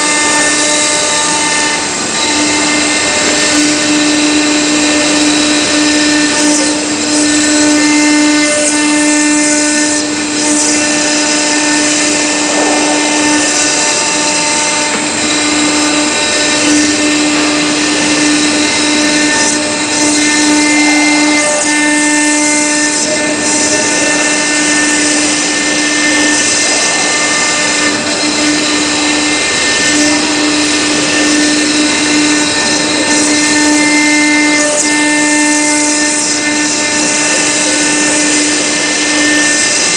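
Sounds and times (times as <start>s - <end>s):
router spindle whine: 0.0s - 39.9s
stone grinding hiss: 2.4s - 39.9s.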